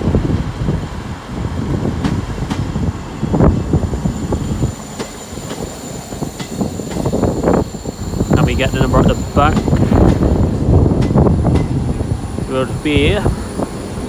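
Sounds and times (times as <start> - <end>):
diesel train rumble: 0.0 - 14.0
wheels clicking on track: 1.8 - 14.0.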